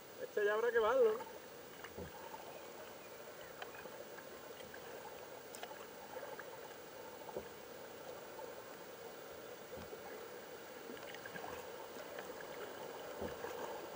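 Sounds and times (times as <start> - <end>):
water gently gurgling: 0.0 - 13.9
paddle splashes: 1.0 - 13.9.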